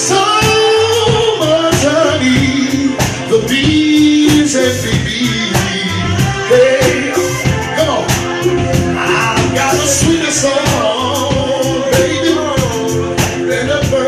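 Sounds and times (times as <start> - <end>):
men singing: 0.0 - 14.0
steady drum beat: 0.0 - 14.0.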